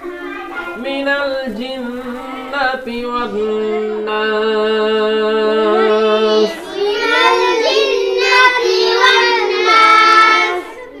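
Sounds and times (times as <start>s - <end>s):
child chanting melodically: 0.0s - 4.2s, 5.6s - 11.0s.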